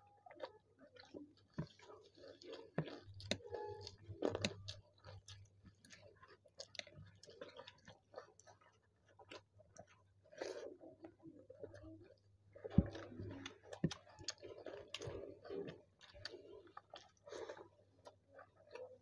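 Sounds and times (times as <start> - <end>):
close chewing and eating: 0.0 - 19.0
crunching food: 0.2 - 19.0.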